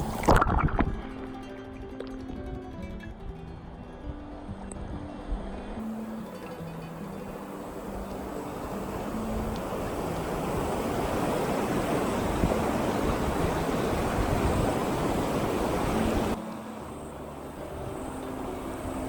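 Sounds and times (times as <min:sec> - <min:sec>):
mountain stream rushing: 0:00.0 - 0:02.6, 0:03.6 - 0:19.0.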